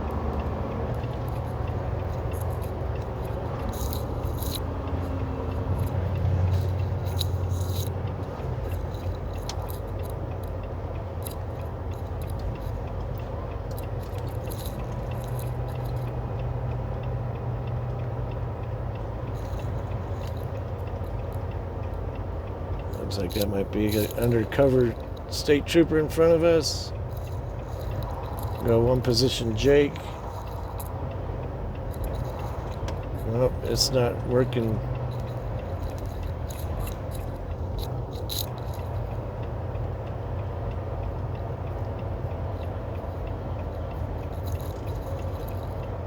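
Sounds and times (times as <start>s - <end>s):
light clicks and rattles: 0.0s - 46.0s
road noise: 0.0s - 46.0s
truck diesel engine running: 0.0s - 46.0s.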